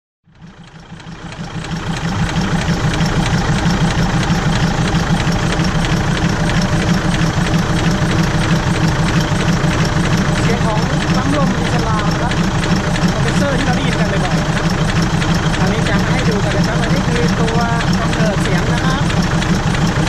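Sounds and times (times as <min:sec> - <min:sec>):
air compressor chugging: 0:00.3 - 0:20.0.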